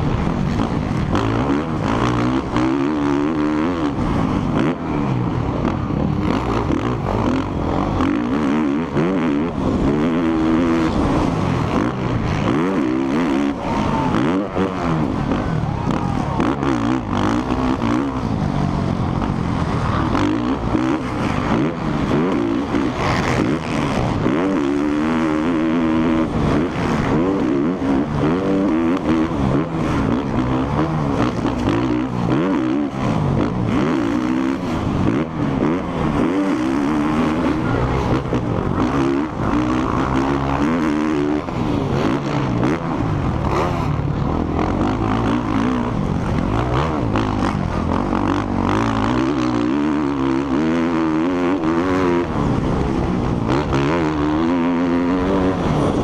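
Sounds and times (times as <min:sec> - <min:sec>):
motocross engine revving: 0:00.0 - 0:56.0
track noise: 0:00.0 - 0:56.0.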